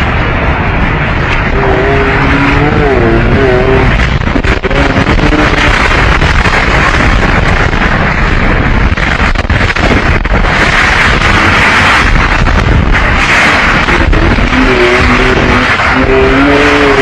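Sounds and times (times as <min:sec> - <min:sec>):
tornado wind blasting microphone: 0:00.0 - 0:17.0.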